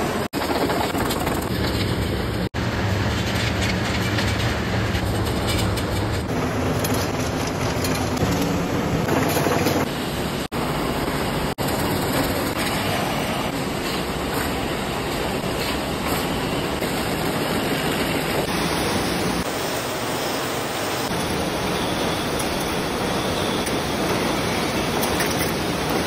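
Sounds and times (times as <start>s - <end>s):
machinery running: 0.0s - 26.0s.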